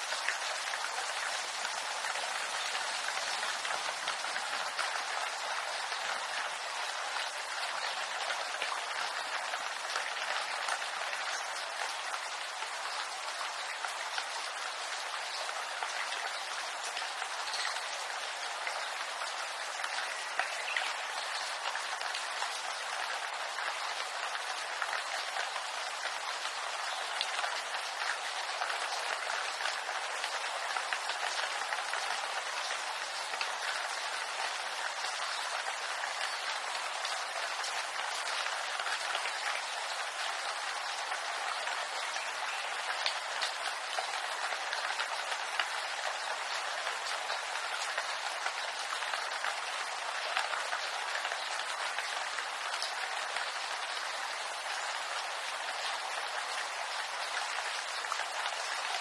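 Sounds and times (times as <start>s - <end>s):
rain on bamboo: 0.0s - 59.0s.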